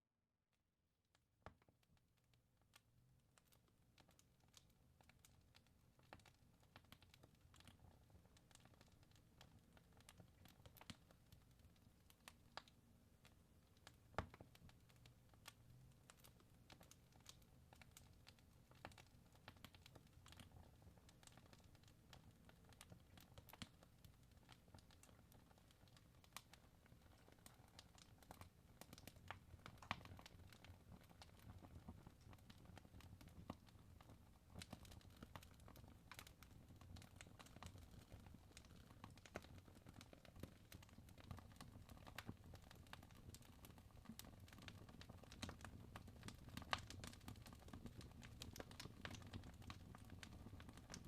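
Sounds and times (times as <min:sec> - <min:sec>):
fire crackling and popping: 0:01.6 - 0:51.0.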